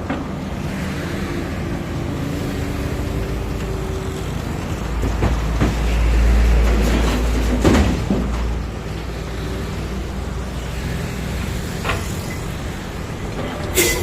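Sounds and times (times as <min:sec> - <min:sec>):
diesel machinery engine rumbling: 0:00.0 - 0:14.0.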